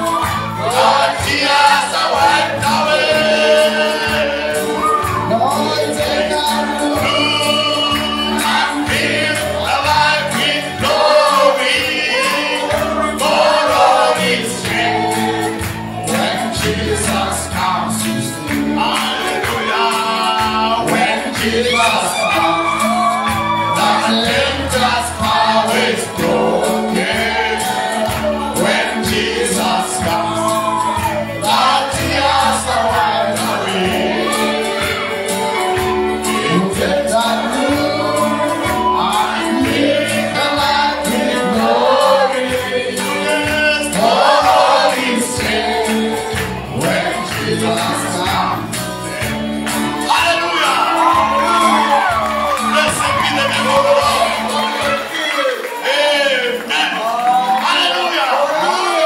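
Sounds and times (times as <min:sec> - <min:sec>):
instrumental backing: 0:00.0 - 0:57.6
voices singing together: 0:00.0 - 0:59.0.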